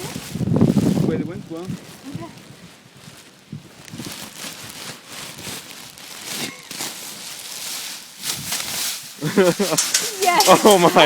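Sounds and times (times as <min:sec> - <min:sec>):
dry seeds rustling and crackling: 0:00.0 - 0:11.0.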